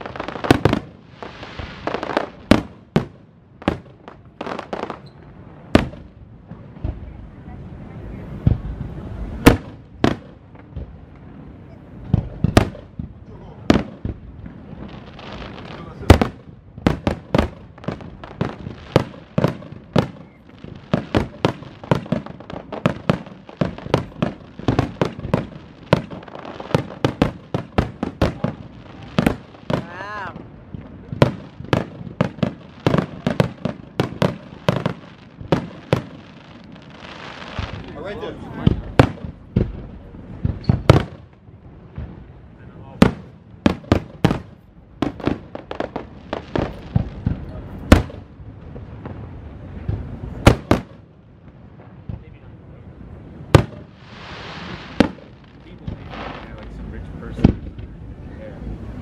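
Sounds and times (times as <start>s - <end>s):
firework shells booming: 0.0s - 7.1s, 8.4s - 11.4s, 12.0s - 52.5s, 53.4s - 58.0s
firework crackling: 0.0s - 59.0s.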